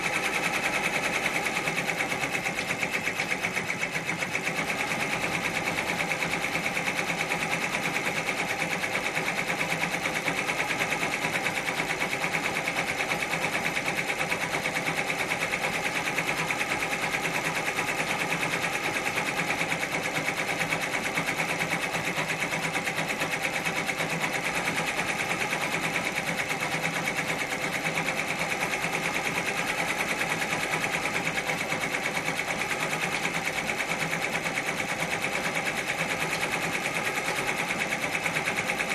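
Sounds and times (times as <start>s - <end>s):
embroidery machine needle clatter: 0.0s - 38.9s.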